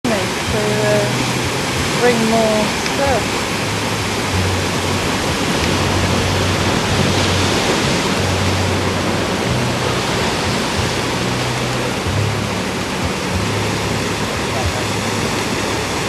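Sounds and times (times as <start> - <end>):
low hum: 0.0 - 16.0
surf breaking over rocks: 0.0 - 16.0.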